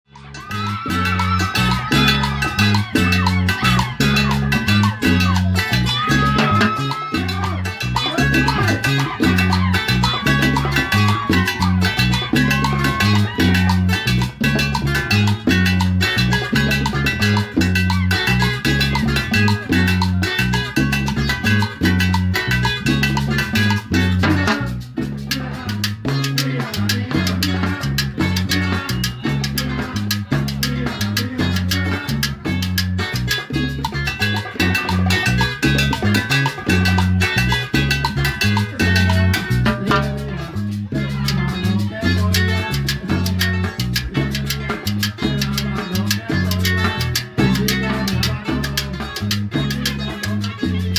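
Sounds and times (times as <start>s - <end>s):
bass line: 0.0s - 50.9s
guitar: 0.0s - 50.9s
percussion: 0.0s - 50.9s
salsa band playing: 0.1s - 50.9s.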